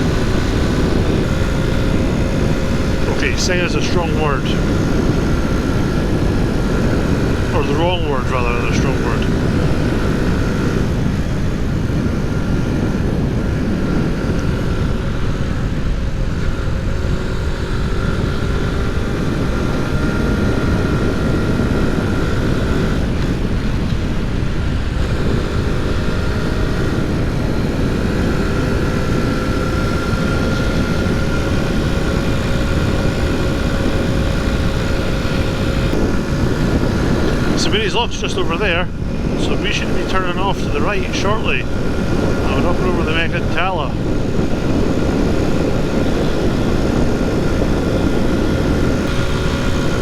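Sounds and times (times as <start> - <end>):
small motorcycle engine running hard: 0.0 - 50.0
wind rush on microphone: 0.0 - 50.0.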